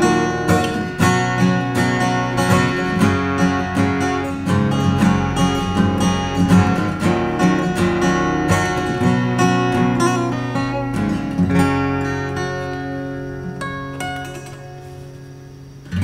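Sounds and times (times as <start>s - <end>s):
fingerstyle acoustic guitar: 0.0s - 16.0s
guitar chord ringing: 0.0s - 16.0s.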